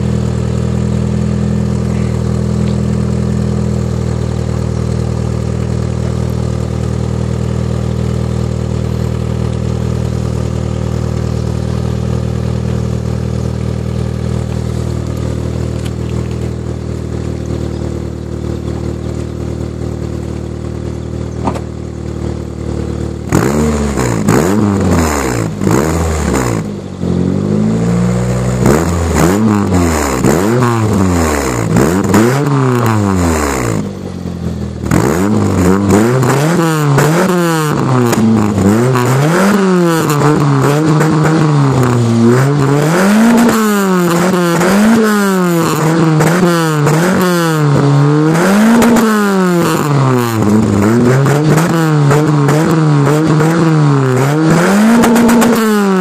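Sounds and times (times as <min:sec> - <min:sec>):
car engine exhaust idling and revving: 0:00.0 - 0:56.0.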